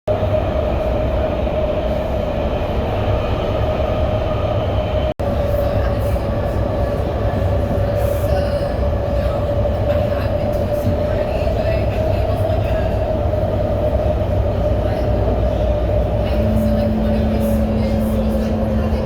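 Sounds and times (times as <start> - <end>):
train rumbling at speed: 0.1 - 19.0.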